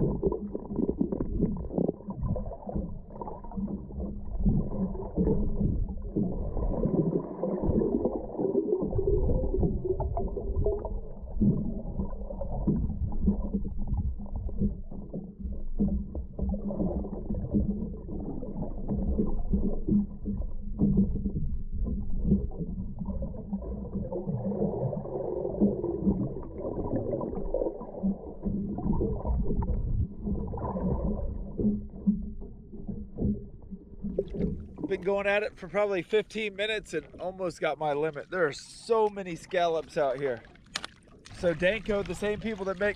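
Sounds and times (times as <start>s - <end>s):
water bubbling and knocks: 0.0s - 35.8s, 38.8s - 42.9s
muffled underwater rumble: 0.0s - 42.9s.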